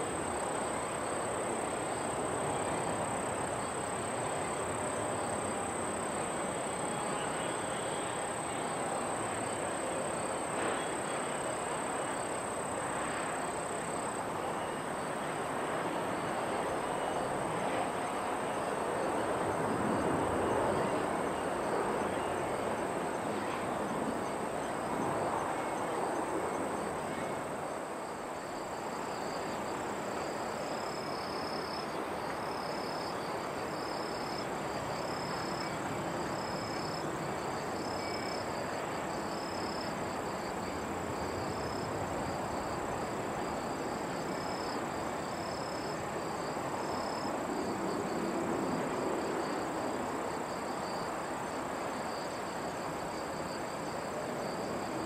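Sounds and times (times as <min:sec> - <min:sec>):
insects chirping: 0:00.0 - 0:55.0
steady broadband background noise: 0:00.0 - 0:55.0.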